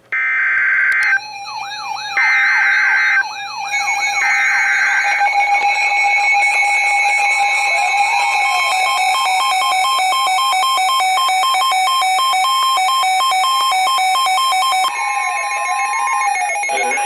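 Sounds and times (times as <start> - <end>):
sweeping siren-like alarm: 0.2 - 17.0
buzzy digital data tones: 1.0 - 17.0.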